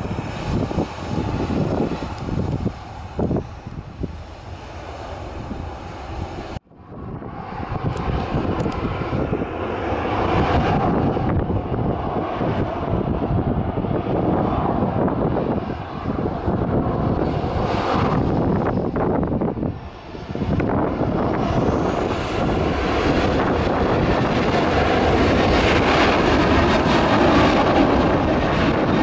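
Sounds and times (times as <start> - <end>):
aircraft engine noise: 0.0 - 29.0
wind buffeting microphone: 0.0 - 29.0.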